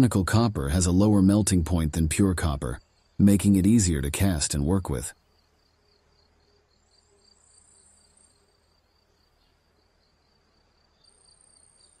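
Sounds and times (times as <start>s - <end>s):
crickets chirring: 0.0s - 12.0s
high faint insect buzz: 0.2s - 12.0s.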